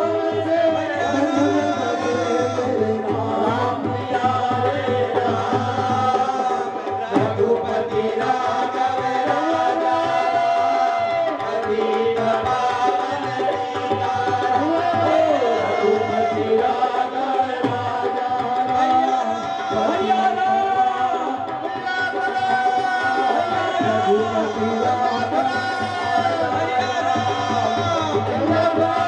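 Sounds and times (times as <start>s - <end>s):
person singing a lament: 0.0s - 29.0s
tabla: 0.0s - 29.0s.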